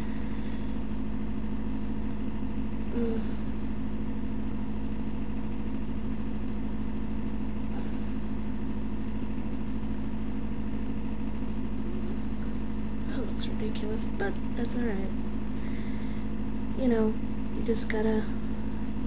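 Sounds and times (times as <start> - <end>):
low hum and buzz: 0.0 - 19.0.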